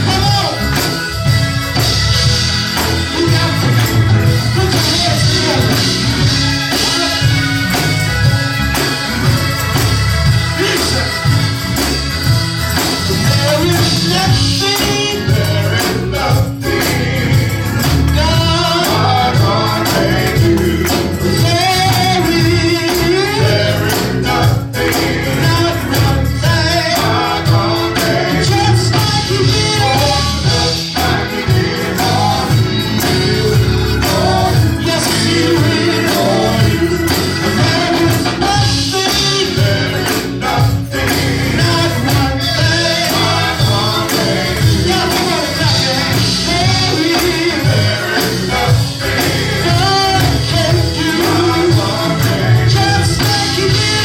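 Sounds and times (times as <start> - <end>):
gospel band playing: 0.0 - 54.0
tambourine shaking: 0.0 - 54.0
voices singing: 0.0 - 54.0.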